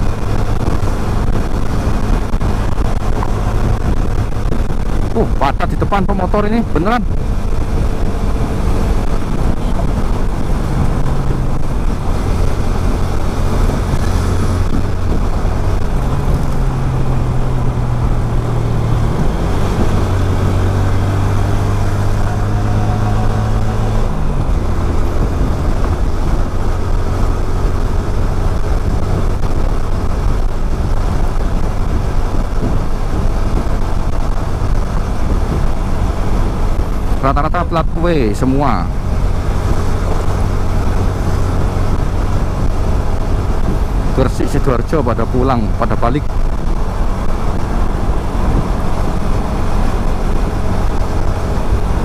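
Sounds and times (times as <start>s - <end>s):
motorcycle engine cruising: 0.0s - 52.0s
wind rushing over microphone: 0.0s - 52.0s.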